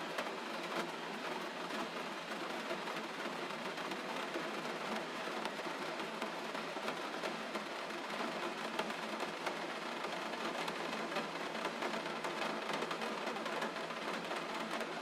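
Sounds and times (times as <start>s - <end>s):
gentle rain: 0.0s - 15.0s.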